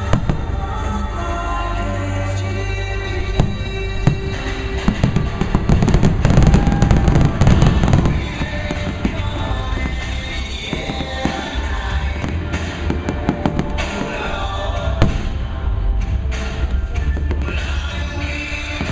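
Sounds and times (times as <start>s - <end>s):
fireworks bangs and crackles: 0.0s - 1.3s, 3.2s - 18.9s
music: 0.0s - 18.9s.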